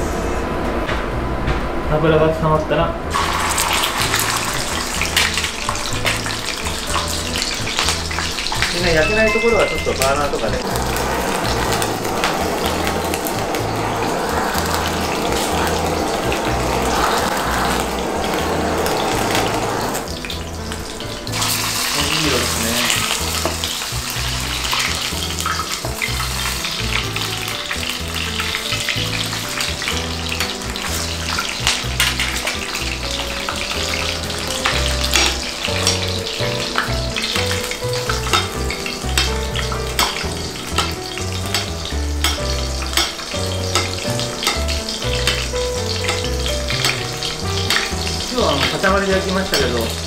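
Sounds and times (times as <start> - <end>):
soft background music: 0.0 - 50.0
meat sizzling in hot oil: 3.1 - 50.0.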